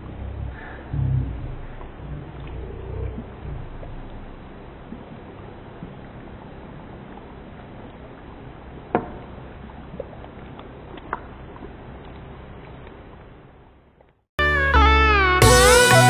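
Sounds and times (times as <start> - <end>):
gravy simmering and bubbling: 0.0 - 14.2.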